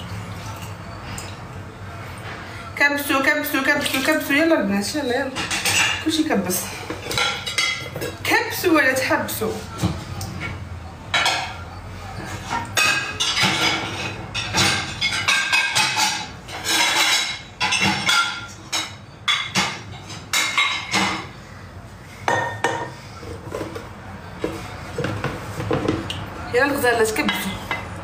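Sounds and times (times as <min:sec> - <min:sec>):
dishes clattering in a dishwasher rack: 0:03.0 - 0:21.4, 0:22.2 - 0:28.0.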